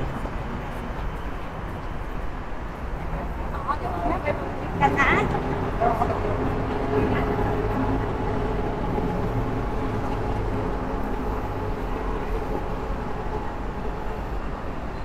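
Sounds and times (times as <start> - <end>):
road traffic rumble: 0.0 - 15.0
vehicle engine hum: 0.0 - 15.0.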